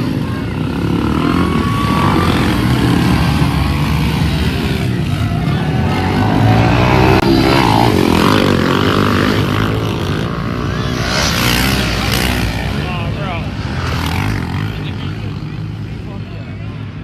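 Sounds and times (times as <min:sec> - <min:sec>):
pit bike engines revving: 0:00.0 - 0:17.0.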